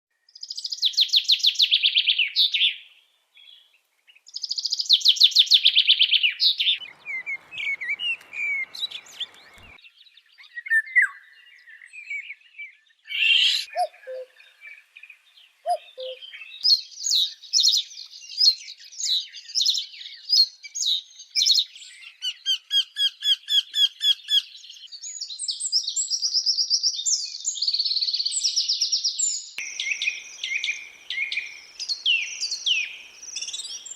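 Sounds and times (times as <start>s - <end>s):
birds singing and calling: 0.2s - 33.9s.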